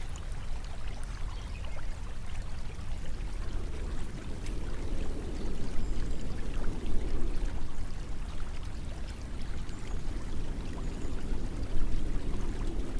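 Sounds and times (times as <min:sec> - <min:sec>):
flowing water rushing: 0:00.0 - 0:12.9
small water splashes: 0:00.0 - 0:12.9.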